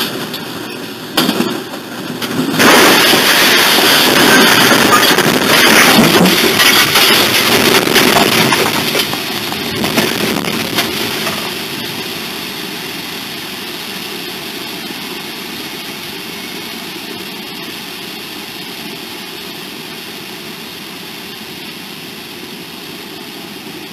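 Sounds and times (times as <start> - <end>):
loud rushing noise: 0.0 - 23.6
engine-like drone: 0.0 - 23.9.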